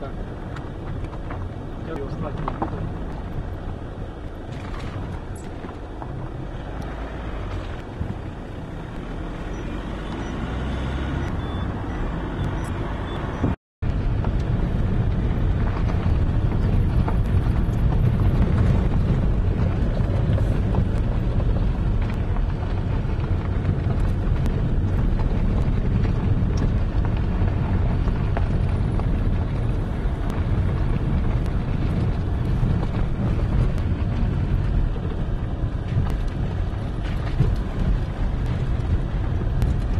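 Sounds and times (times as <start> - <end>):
tyre and engine rumble: 0.0 - 39.9.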